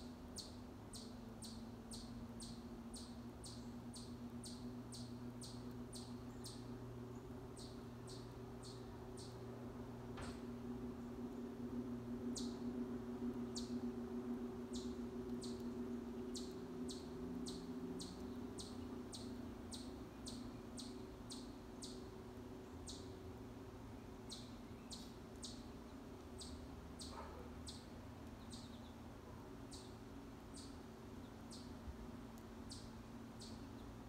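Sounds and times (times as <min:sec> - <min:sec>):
songbird chirping: 0:00.0 - 0:34.0
steady low hum: 0:00.0 - 0:34.0.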